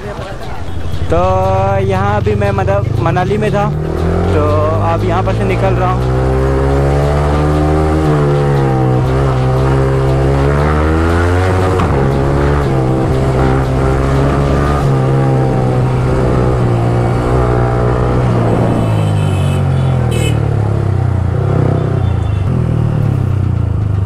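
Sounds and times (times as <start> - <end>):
motorcycle engine revving: 0.7 - 24.0.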